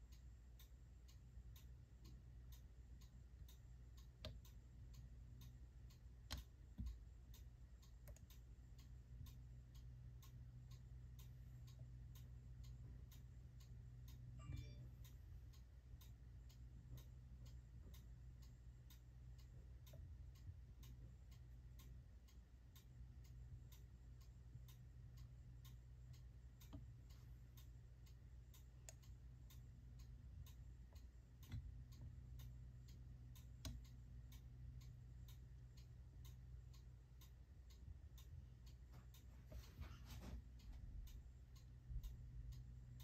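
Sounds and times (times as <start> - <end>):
cuckoo clock ticking: 0.0 - 43.0
faint low hum: 0.0 - 43.0.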